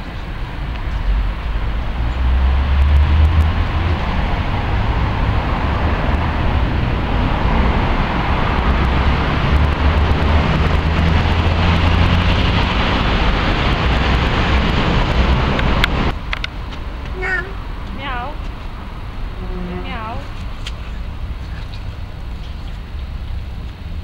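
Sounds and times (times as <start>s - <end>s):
road traffic rumble: 0.0s - 24.0s
vehicle engine drone: 0.0s - 24.0s.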